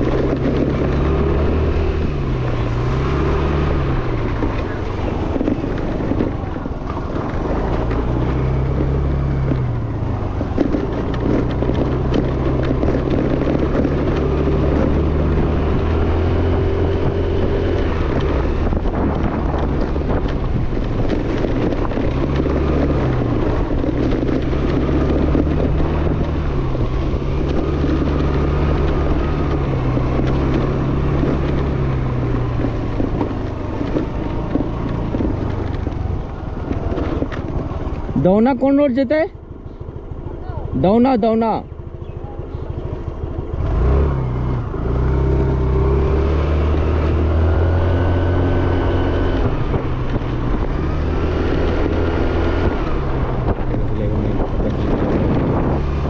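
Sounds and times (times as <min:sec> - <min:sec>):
scooter engine running: 0:00.0 - 0:56.0
wind buffeting microphone: 0:00.0 - 0:56.0.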